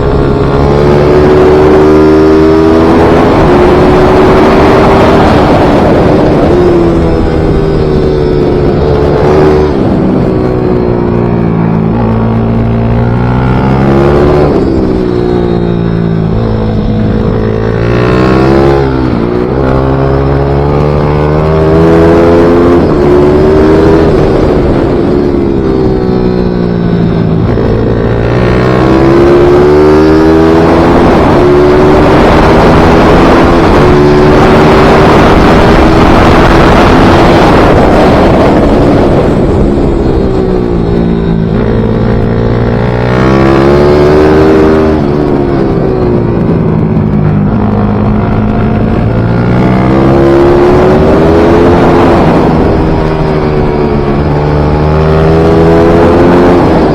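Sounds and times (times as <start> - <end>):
minibike engine revving: 0.0 - 56.9.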